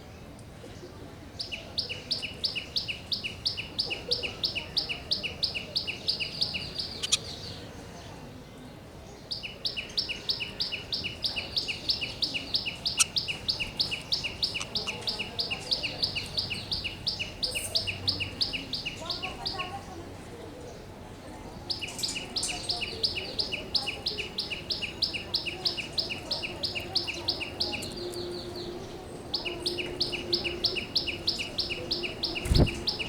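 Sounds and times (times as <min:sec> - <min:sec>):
bird chirping: 0:01.5 - 0:07.6, 0:09.3 - 0:19.7, 0:21.7 - 0:33.0.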